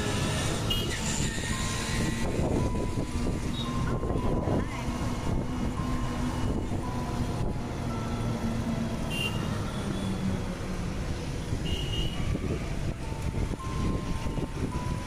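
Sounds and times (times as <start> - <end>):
vehicle road noise rumble: 0.0 - 15.0.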